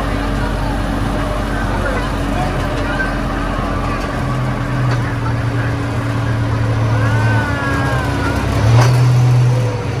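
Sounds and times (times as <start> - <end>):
miniature train engine hum: 0.0 - 10.0
rushing noise of ride: 0.0 - 10.0.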